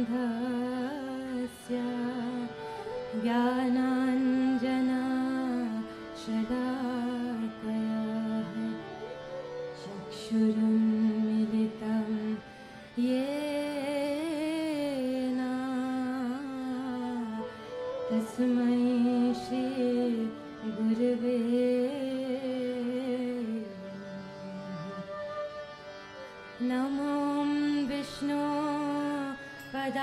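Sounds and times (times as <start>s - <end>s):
woman singing: 0.0s - 25.6s, 26.6s - 30.0s
harmonium: 0.0s - 30.0s.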